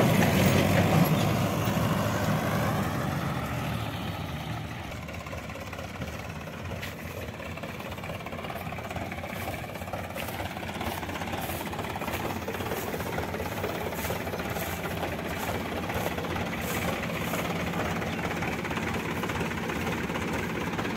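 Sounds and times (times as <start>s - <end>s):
heavy vehicle engine running: 0.0s - 20.9s.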